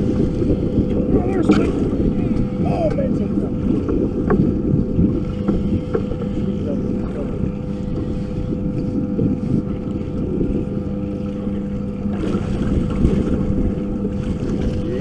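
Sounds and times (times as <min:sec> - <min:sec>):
outboard motor idling: 0:00.0 - 0:15.0
wind buffeting microphone: 0:00.0 - 0:15.0.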